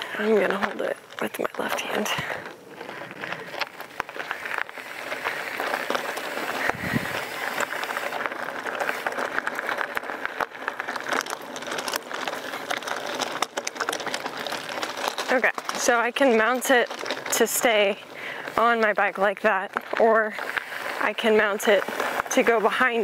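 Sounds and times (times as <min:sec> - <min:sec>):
bike tyres crunching on gravel: 0:00.0 - 0:23.0.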